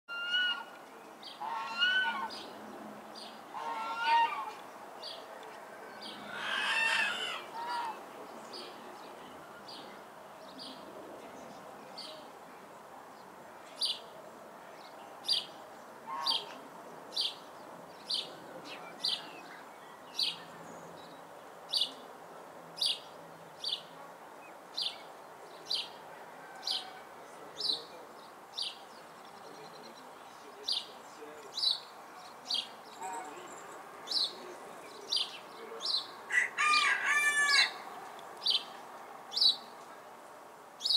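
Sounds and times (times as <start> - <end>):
birds calling: 0.1 - 22.2, 22.8 - 40.0.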